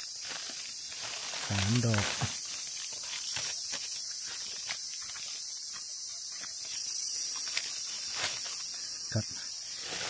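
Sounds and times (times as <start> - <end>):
dry leaves crackling underfoot: 0.0 - 8.9, 9.5 - 10.0
steady high hiss: 0.0 - 10.0.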